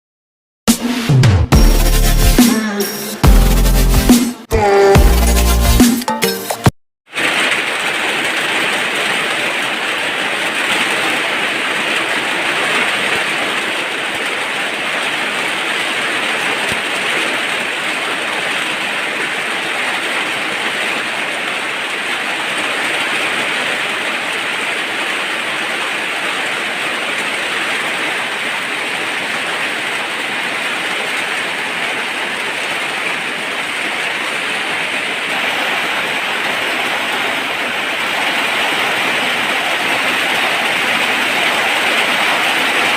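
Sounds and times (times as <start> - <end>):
heavy rain falling: 7.1 - 42.9.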